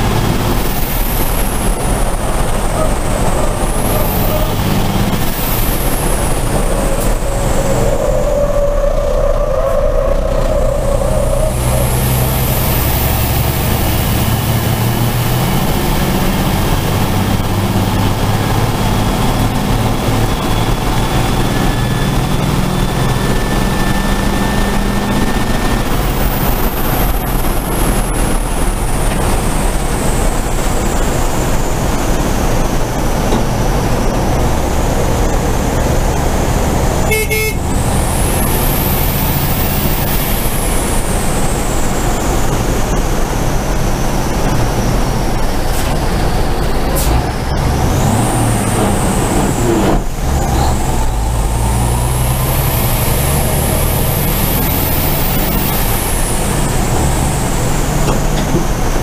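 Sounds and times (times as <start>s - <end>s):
road and wind noise: 0.0s - 59.0s
truck engine running hard: 0.0s - 59.0s.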